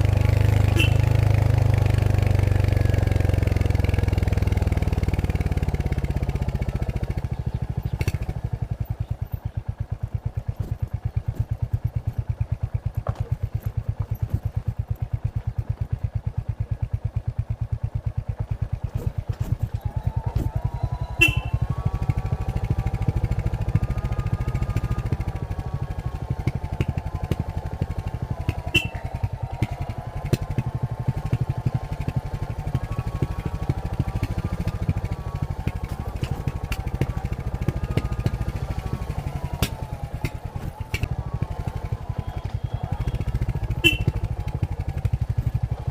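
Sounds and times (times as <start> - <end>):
motorcycle engine at low revs: 0.0 - 45.9.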